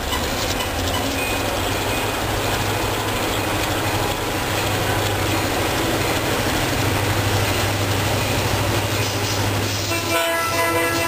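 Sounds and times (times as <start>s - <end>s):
diesel locomotive engine humming: 0.0s - 11.0s.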